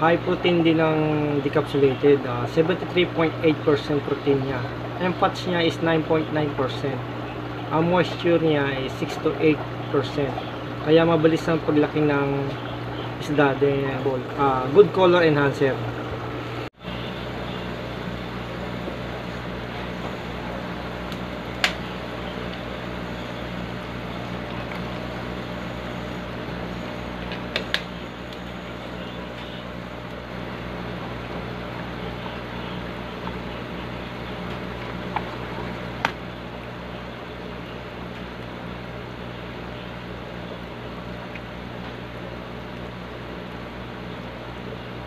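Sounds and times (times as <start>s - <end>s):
aquarium air pump humming: 0.0s - 45.0s.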